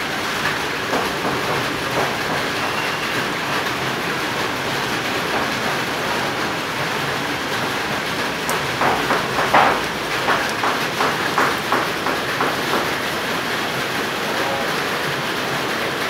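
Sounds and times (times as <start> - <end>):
light rain on roofs: 0.0 - 16.0
raindrop taps: 0.2 - 13.6.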